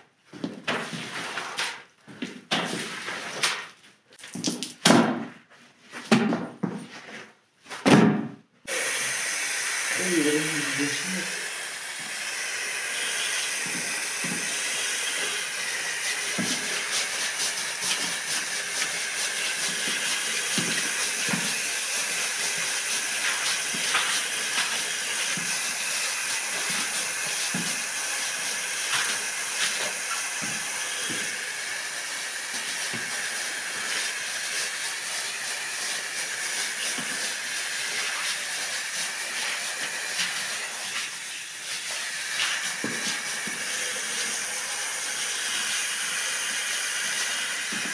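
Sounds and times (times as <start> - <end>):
water spraying onto rug: 4.2 - 4.8, 8.7 - 11.3, 12.7 - 47.9
push broom scrubbing: 8.7 - 47.9.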